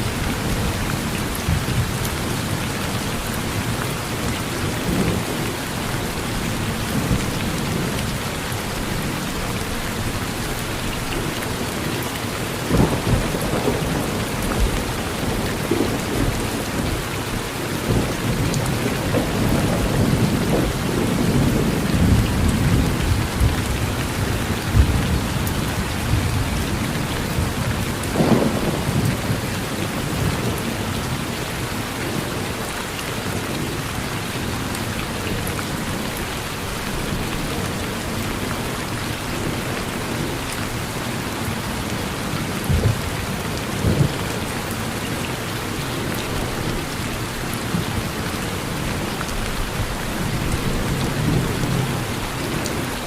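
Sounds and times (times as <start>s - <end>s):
rain falling on a porch: 0.0s - 53.0s.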